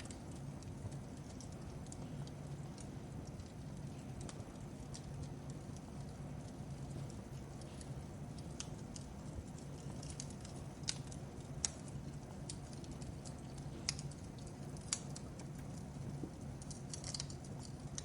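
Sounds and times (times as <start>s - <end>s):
fire popping and snapping: 0.0s - 18.0s
low rumble of fire: 0.0s - 18.0s.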